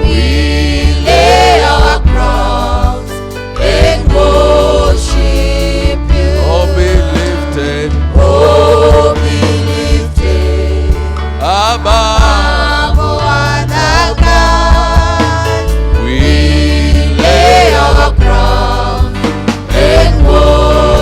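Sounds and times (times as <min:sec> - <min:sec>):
band with heavy bass: 0:00.0 - 0:21.0
voices singing gospel: 0:00.0 - 0:21.0.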